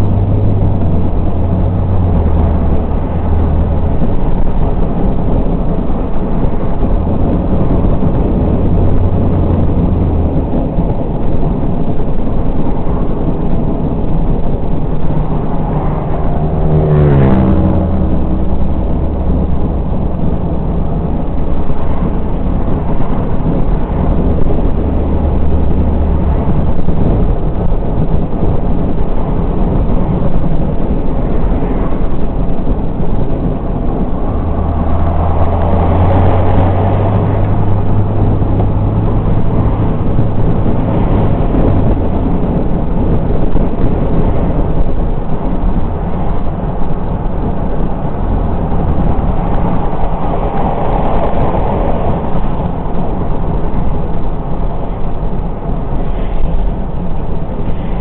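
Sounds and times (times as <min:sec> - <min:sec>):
car engine hum: 0:00.0 - 0:58.0
road and wind noise: 0:00.0 - 0:58.0.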